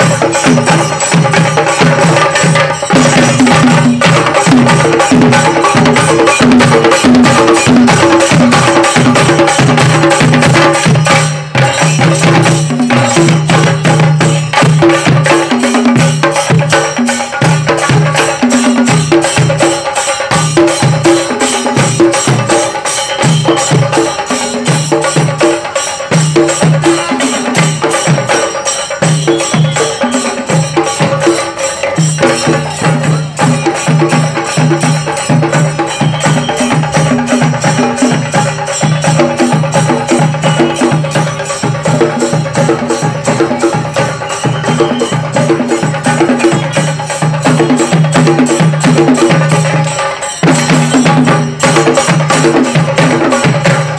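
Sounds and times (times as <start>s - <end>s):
drums beaten with sticks: 0.0s - 53.9s.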